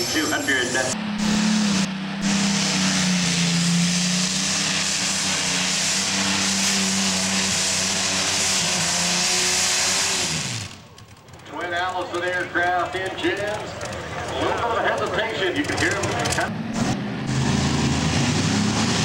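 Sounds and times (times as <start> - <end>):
tractor engines droning: 0.0 - 19.0.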